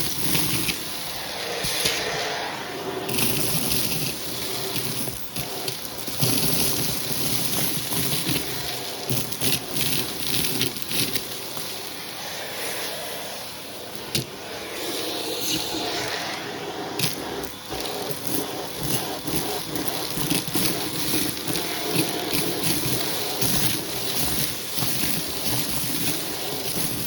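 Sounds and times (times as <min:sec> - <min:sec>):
debris crackling into hose: 0:00.0 - 0:12.3, 0:13.4 - 0:14.4, 0:17.0 - 0:27.0
vacuum cleaner running: 0:00.0 - 0:27.0.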